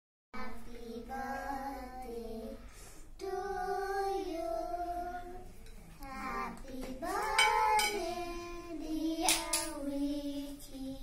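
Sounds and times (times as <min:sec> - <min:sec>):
children singing: 0:00.4 - 0:02.6, 0:03.2 - 0:11.0.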